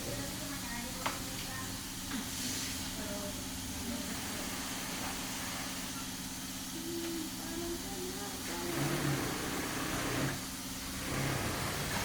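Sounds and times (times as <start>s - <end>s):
machinery hum with hiss: 0.0s - 12.0s.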